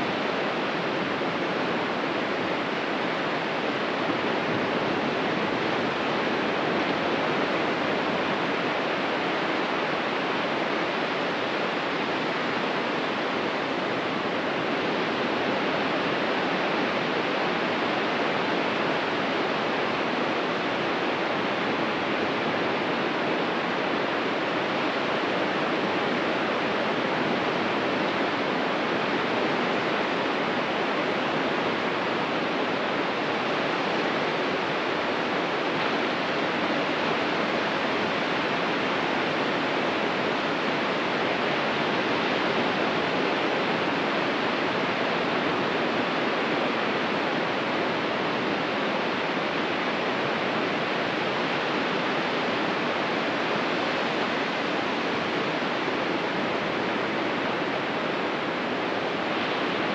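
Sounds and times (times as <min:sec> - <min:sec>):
ocean surf washing on beach: 0:00.0 - 0:59.9.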